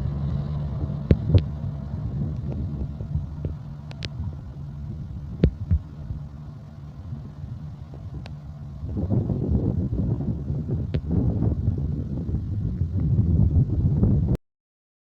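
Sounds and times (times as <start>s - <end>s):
diesel locomotive engine rumbling: 0.0s - 14.4s.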